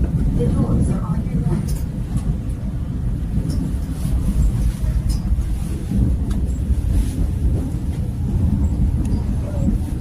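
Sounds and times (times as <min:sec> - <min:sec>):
electric train rumbling: 0:00.0 - 0:10.0
wind buffeting microphone: 0:00.0 - 0:10.0.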